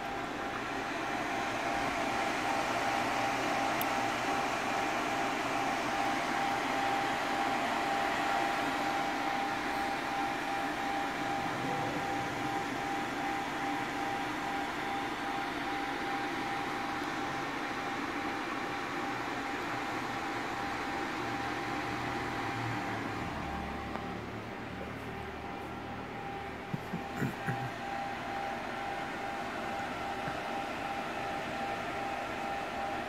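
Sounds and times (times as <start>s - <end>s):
electric fan whirring: 0.0s - 33.0s.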